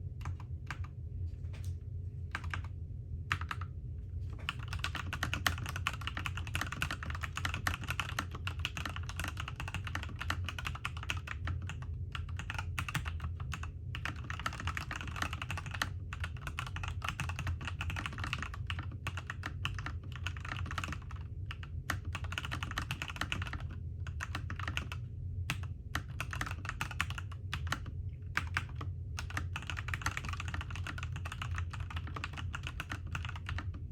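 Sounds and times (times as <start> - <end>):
mechanical keyboard typing: 2.3 - 2.7, 3.3 - 3.6, 4.4 - 33.8.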